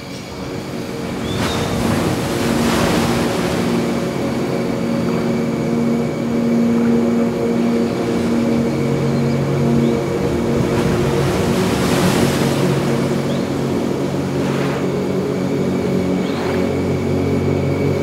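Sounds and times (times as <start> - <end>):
low steady drone of held tones: 0.0 - 18.0
soft wash of sea noise: 0.0 - 18.0.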